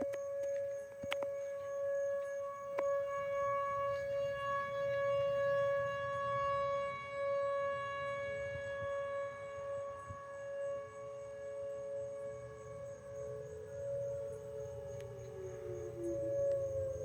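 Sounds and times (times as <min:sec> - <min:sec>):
lower siren tone: 0:00.0 - 0:17.0
warning siren steady tone: 0:00.0 - 0:17.0.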